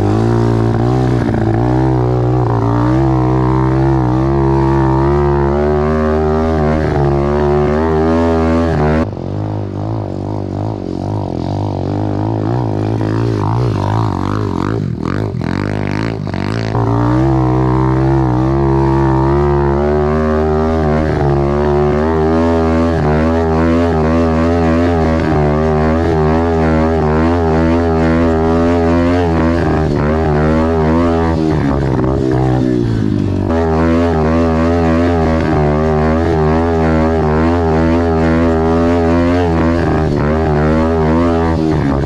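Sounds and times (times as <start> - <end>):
motorbike engine revving: 0.0 - 42.0.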